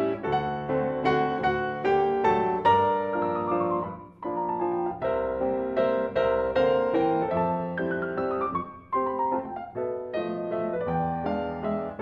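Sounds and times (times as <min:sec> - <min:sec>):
solo grand piano: 0:00.0 - 0:12.0.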